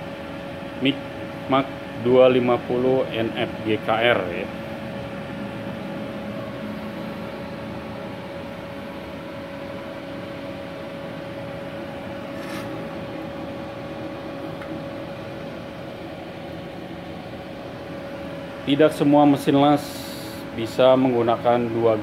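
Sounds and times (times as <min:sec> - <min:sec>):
welder cooling fan hum: 0:00.0 - 0:22.0.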